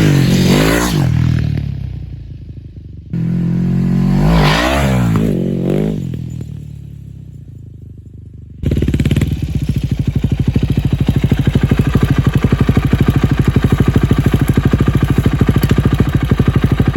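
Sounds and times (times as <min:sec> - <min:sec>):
motorcycle engine idling: 0:01.1 - 0:16.9.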